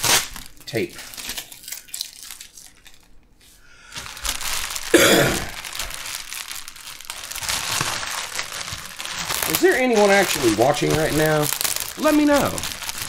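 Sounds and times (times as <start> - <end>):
plastic bag crinkling: 0.0 - 3.2, 3.8 - 13.0.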